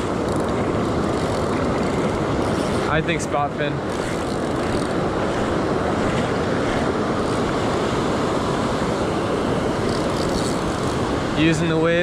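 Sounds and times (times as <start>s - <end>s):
ocean surf washing up: 0.0s - 12.0s.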